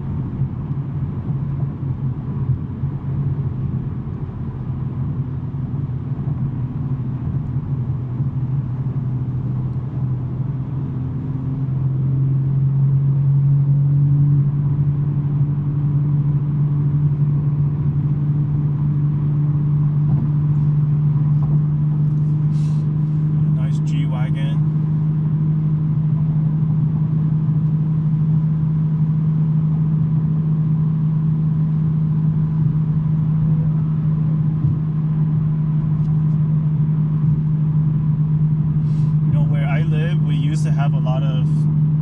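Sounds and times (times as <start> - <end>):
car engine droning: 0.0 - 42.0
road noise: 0.0 - 42.0.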